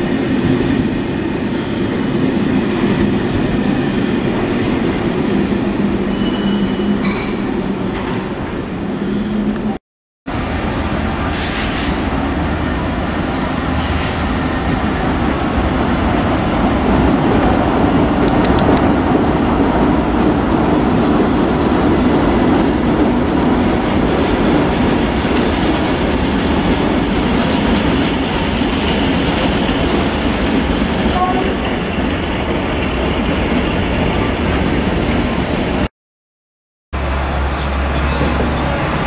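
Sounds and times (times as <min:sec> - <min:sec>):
train rumbling past: 0:00.0 - 0:35.9, 0:37.0 - 0:39.0.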